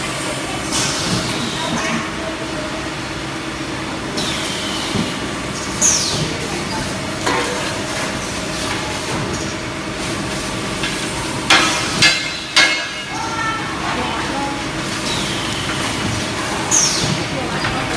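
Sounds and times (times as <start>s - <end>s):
machines humming: 0.0s - 17.9s.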